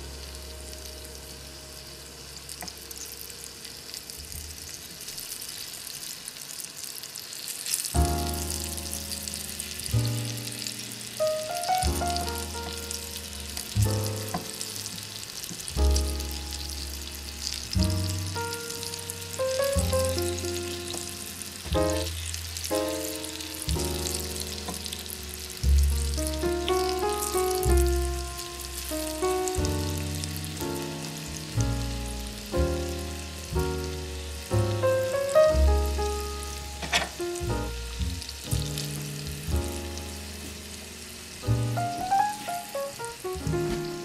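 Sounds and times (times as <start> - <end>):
background music with bass: 0.0 - 3.0, 8.0 - 42.3
food sizzling and popping: 0.0 - 44.0.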